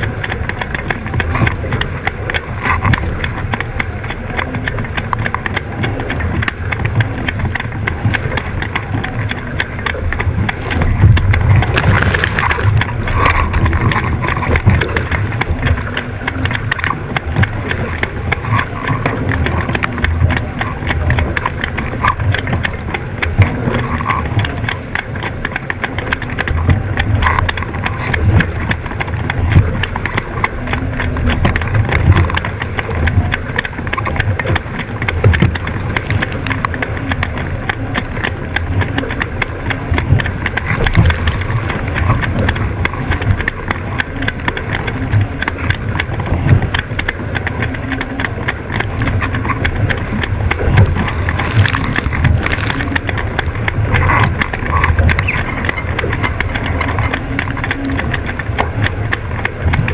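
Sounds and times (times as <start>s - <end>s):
hull knocking on waves: 0.0s - 59.9s
water rushing past hull: 0.0s - 59.9s
wind buffeting microphone: 0.0s - 59.9s.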